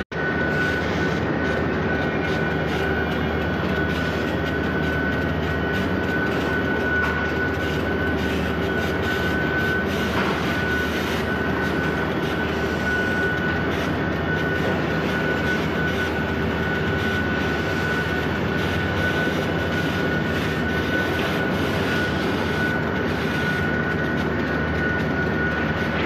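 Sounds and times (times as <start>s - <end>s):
high-pitched machine whine: 0.0s - 26.0s
mill machinery din: 0.0s - 26.0s.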